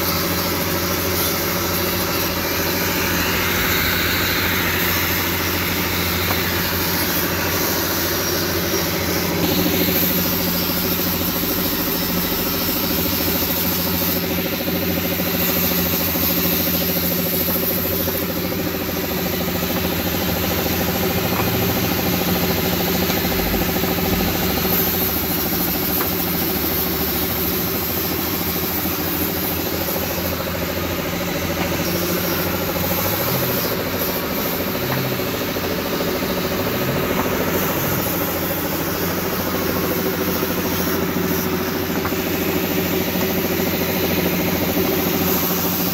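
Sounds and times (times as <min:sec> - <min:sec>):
machine motor humming: 0:00.0 - 0:28.0, 0:28.8 - 0:45.9.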